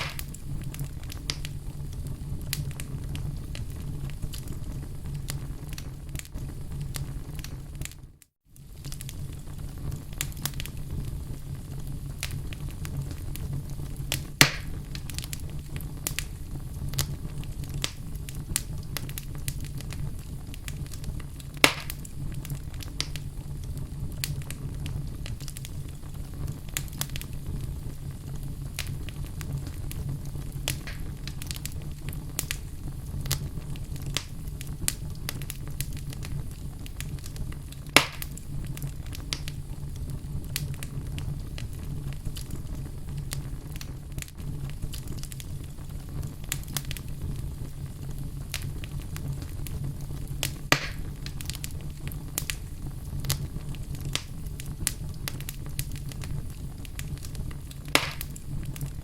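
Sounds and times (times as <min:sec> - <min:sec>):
sharp fire pops: 0:00.0 - 0:59.0
wood fire crackling: 0:00.0 - 0:59.0.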